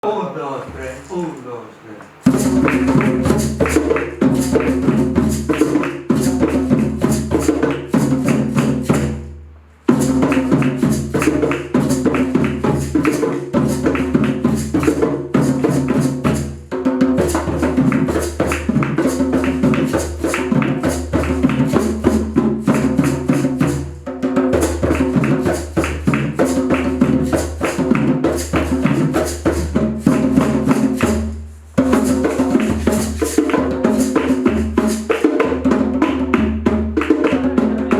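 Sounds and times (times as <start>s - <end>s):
music with fast clicking percussion: 2.2s - 9.3s, 9.9s - 37.9s.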